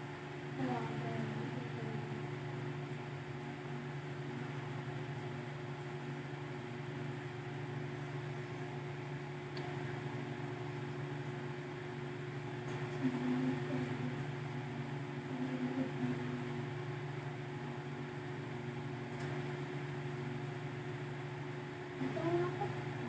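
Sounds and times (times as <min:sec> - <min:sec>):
low electrical hum with hiss: 0:00.0 - 0:23.0.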